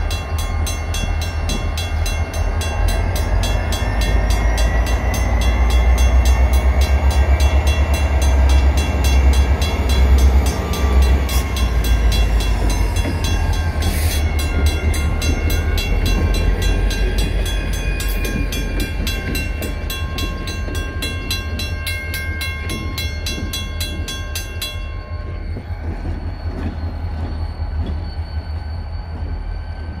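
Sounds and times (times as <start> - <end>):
mechanical crossing bell ringing: 0.0 - 25.3
diesel locomotives rumbling: 0.0 - 30.0.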